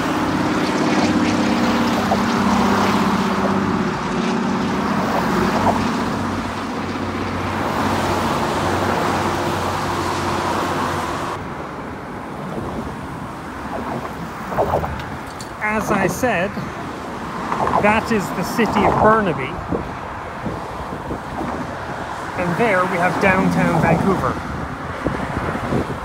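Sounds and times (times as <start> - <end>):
floatplane droning overhead: 0.0 - 26.0
road traffic rushing: 0.0 - 26.0.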